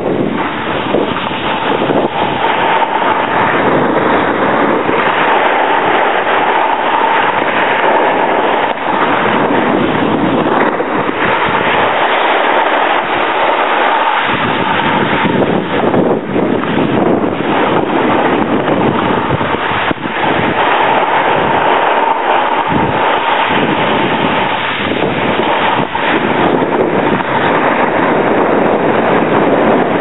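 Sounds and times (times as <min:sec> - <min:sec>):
skis scraping over snow: 0:00.0 - 0:30.0
wind buffeting microphone: 0:00.0 - 0:30.0.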